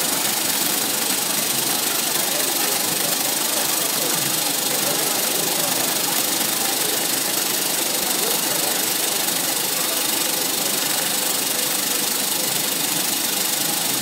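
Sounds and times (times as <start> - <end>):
vibrating screen machine running: 0.0 - 14.0.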